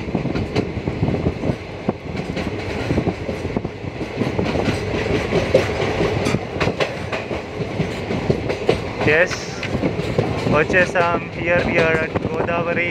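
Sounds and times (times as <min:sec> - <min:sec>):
train rumble: 0:00.0 - 0:12.9
wheels clattering over rails: 0:01.4 - 0:12.4.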